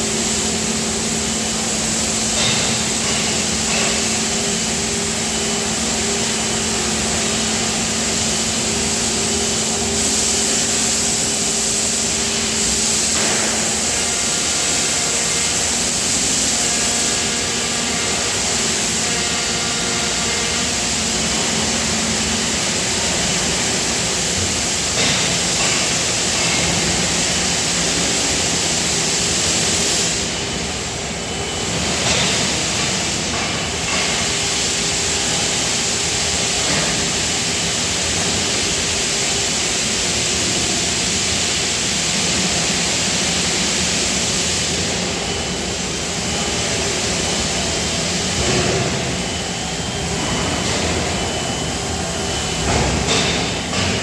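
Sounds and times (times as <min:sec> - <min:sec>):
loud factory machinery: 0:00.0 - 0:54.0.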